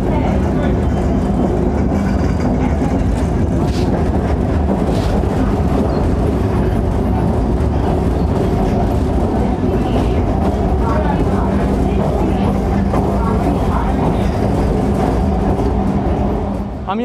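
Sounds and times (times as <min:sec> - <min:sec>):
electric train running: 0:00.0 - 0:16.8.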